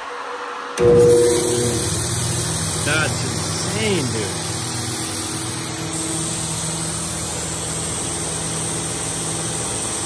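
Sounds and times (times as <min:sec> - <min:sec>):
air compressor motor hum: 0:00.8 - 0:10.0
compressor hiss: 0:00.8 - 0:10.0.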